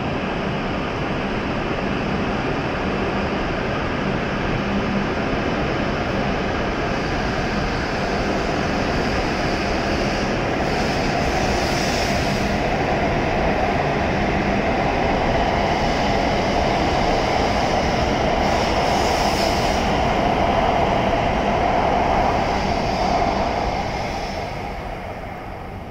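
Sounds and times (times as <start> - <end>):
high-speed train running noise: 0.0 - 25.9.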